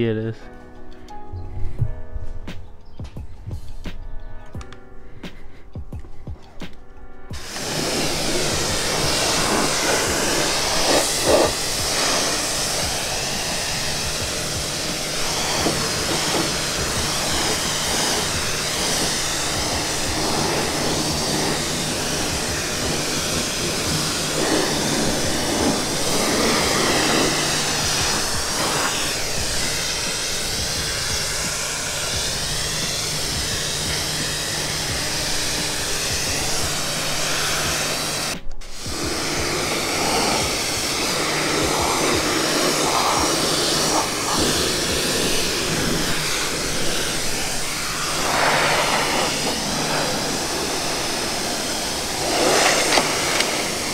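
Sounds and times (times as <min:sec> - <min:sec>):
pressure washer spraying water: 0:07.3 - 0:53.9.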